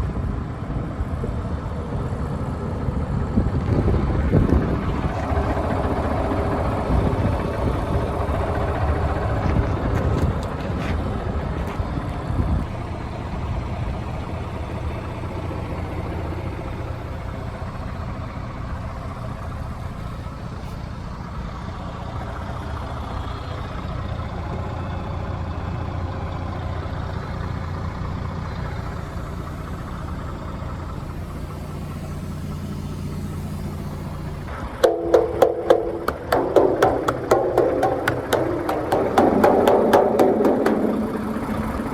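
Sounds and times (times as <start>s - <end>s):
diesel truck engine idling: 0.1s - 41.9s.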